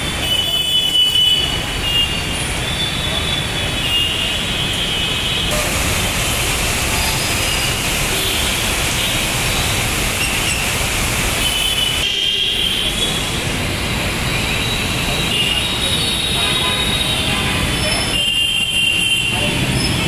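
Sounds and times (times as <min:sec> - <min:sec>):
heavy rain hissing: 0:01.4 - 0:20.0.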